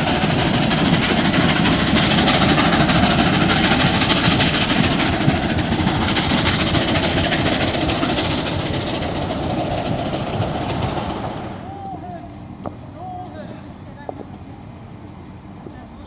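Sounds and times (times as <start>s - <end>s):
steam train running: 0.0s - 16.0s.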